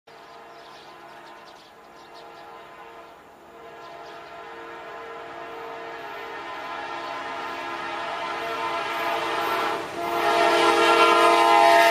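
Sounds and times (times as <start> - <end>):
locomotive air horn chord: 2.2 - 11.9.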